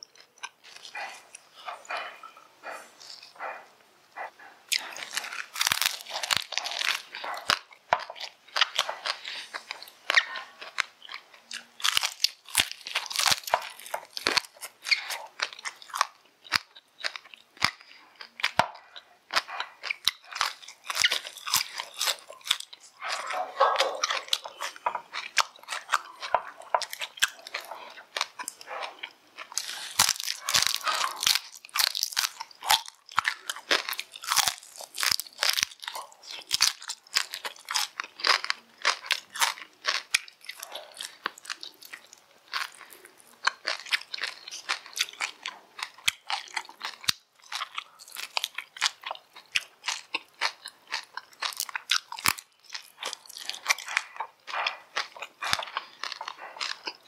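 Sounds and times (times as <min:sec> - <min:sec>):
crisp crunching and chewing: 0:00.0 - 0:03.6, 0:04.2 - 0:57.0.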